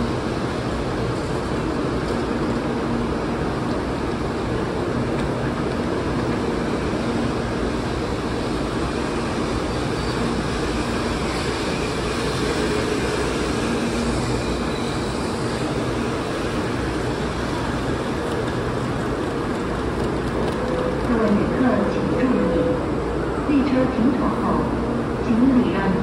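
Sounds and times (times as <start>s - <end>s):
train cars passing: 0.0s - 26.0s.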